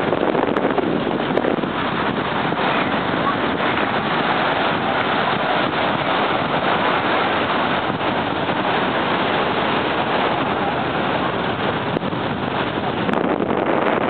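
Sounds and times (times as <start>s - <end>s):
waves breaking on beach: 0.0s - 14.0s
wind buffeting microphone: 0.0s - 14.0s.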